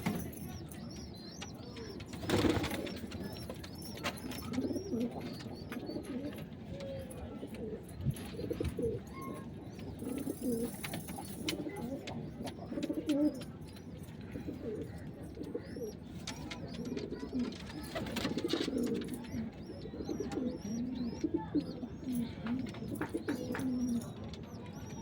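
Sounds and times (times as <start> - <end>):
pigeons cooing: 0.0 - 6.9, 7.6 - 25.0.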